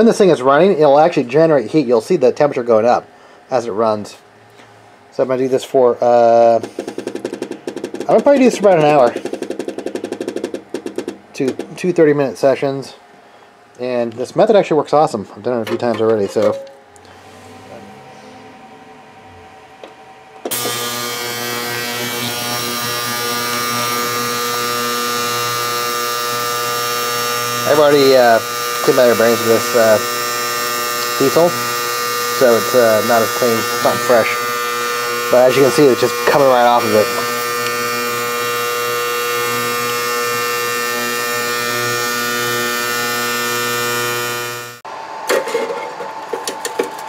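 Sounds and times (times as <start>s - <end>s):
ultrasonic cleaner buzzing: 4.4s - 11.7s, 15.4s - 47.0s.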